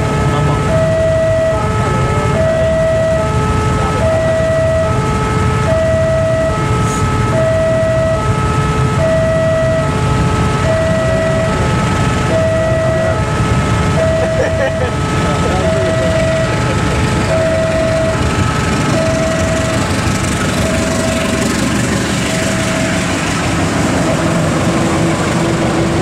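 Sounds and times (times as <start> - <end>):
low rumble of engines: 0.0 - 26.0
two-tone level crossing alarm: 0.0 - 26.0.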